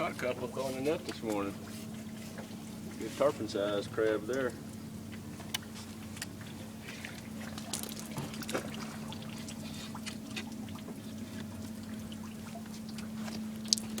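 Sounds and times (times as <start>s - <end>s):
steady low hum: 0.0s - 14.0s
water trickling and splashing: 0.0s - 14.0s.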